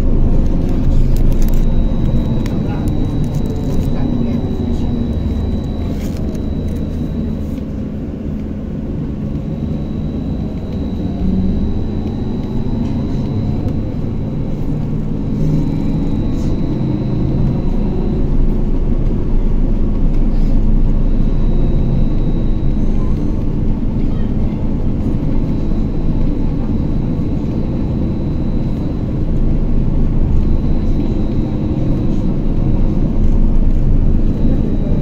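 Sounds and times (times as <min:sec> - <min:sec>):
high steady whine: 0:00.0 - 0:35.0
trolleybus rumble: 0:00.0 - 0:35.0.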